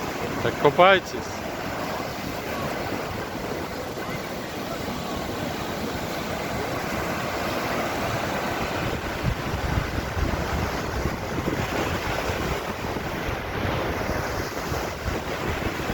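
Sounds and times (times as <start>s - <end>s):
surf washing onto beach: 0.0s - 15.9s
wind buffeting microphone: 0.0s - 15.9s.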